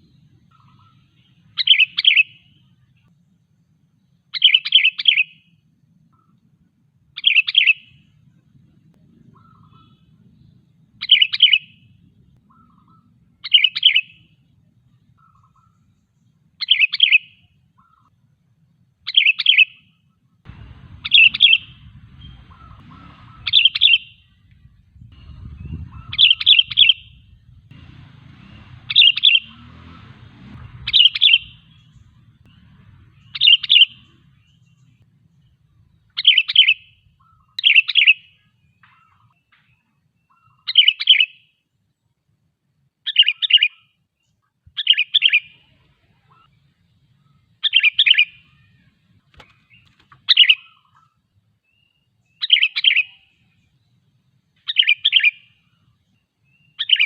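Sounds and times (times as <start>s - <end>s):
bulbul calling: 0.0s - 3.1s, 4.3s - 5.5s, 7.1s - 18.1s, 19.1s - 41.5s, 43.1s - 44.0s, 44.7s - 53.8s, 54.6s - 57.0s.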